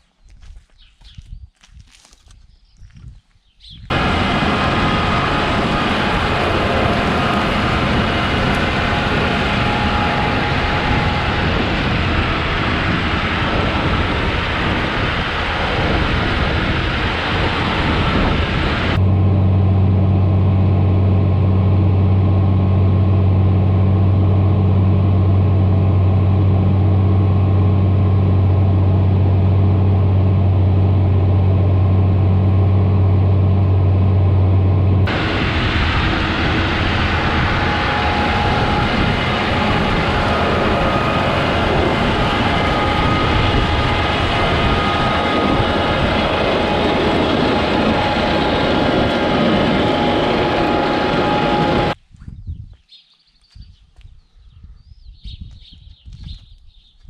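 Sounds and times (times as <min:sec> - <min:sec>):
low engine hum: 0:03.9 - 0:52.0
tractor engine and rolling noise: 0:03.9 - 0:52.0.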